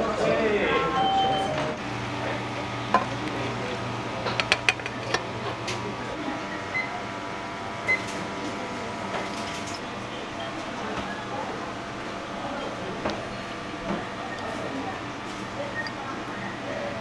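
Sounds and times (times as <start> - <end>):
kitchen ventilation hum: 0.0 - 17.0.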